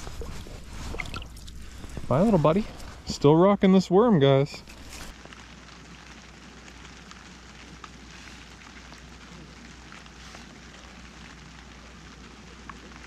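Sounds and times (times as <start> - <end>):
outdoor hiss: 0.0 - 13.0.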